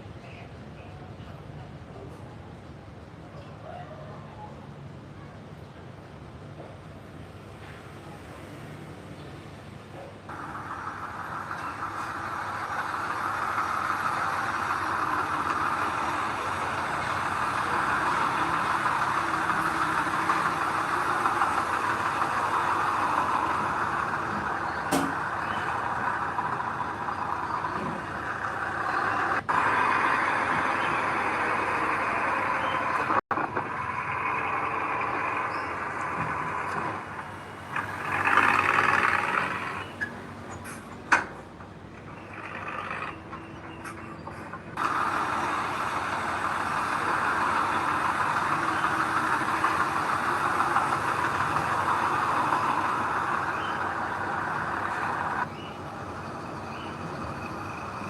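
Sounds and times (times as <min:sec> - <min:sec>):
heavy diesel machinery running: 0:04.3 - 0:58.0.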